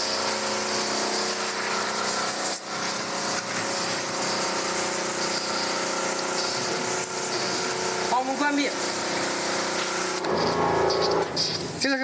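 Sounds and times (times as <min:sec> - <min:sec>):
steam jet hissing: 0:00.0 - 0:10.4
pump and motor humming: 0:00.0 - 0:12.0.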